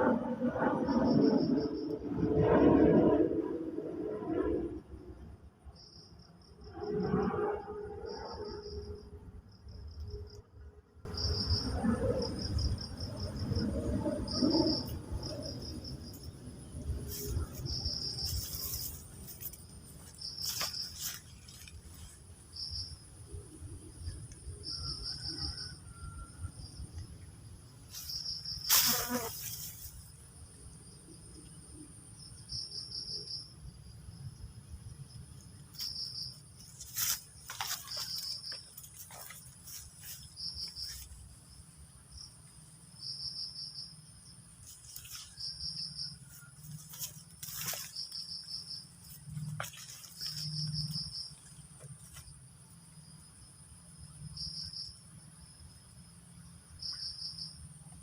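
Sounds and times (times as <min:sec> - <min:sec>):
cricket-like chirps: 0:00.0 - 0:58.0
high-pitched insect drone: 0:11.1 - 0:57.9.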